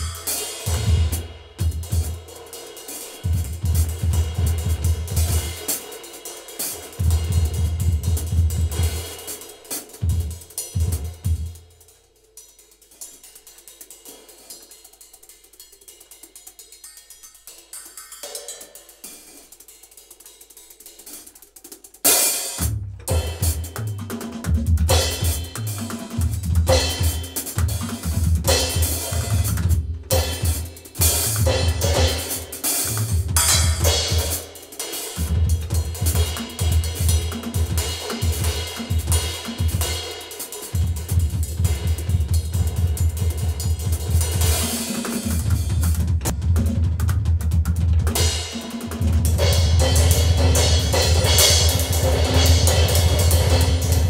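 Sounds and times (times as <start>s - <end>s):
drum kit groove: 0.0s - 54.0s.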